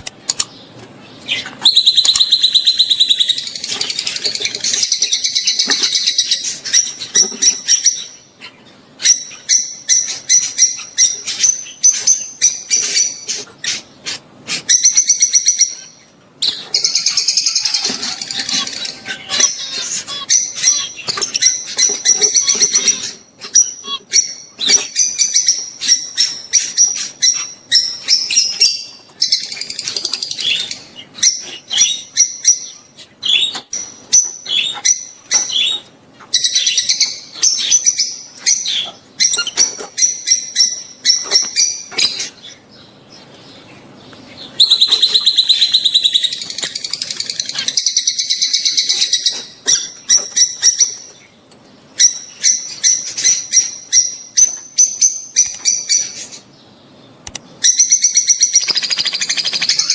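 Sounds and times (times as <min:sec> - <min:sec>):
lovebirds chattering: 0:00.0 - 0:59.9.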